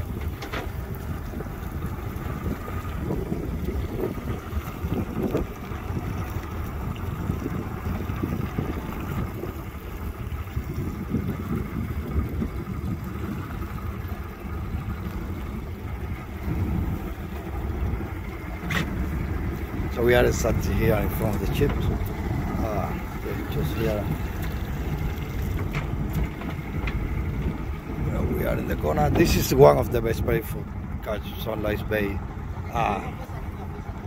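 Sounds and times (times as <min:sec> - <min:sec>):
outboard motor idling: 0:00.0 - 0:34.0
wind buffeting microphone: 0:00.0 - 0:34.0.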